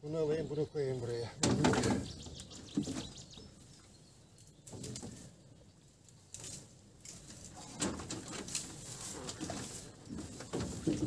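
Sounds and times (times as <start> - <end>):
branches and leaves rustling: 0.8 - 11.0.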